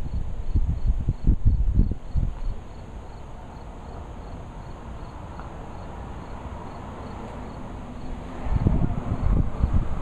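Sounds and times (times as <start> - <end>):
insects chirping: 0.0 - 8.3.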